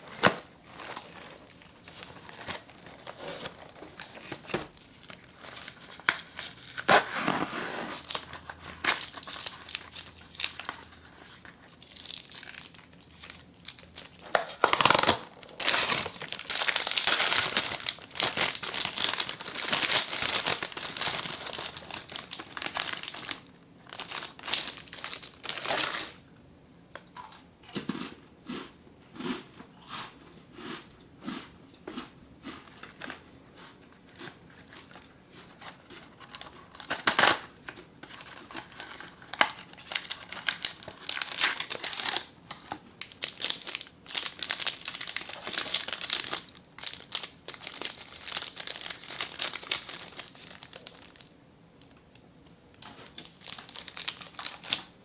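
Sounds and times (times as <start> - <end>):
foil wrapper crinkling: 0.0 - 26.2, 34.6 - 52.0, 52.8 - 54.9.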